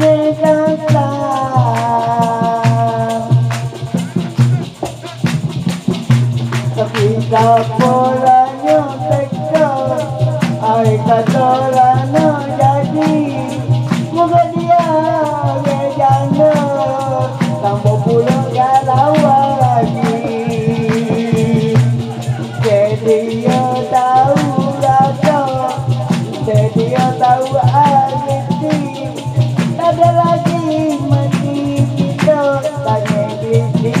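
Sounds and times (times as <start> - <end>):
man singing through microphone: 0.0 - 5.2, 6.7 - 34.0
percussion beat: 0.0 - 34.0
shaken rattle: 0.0 - 34.0.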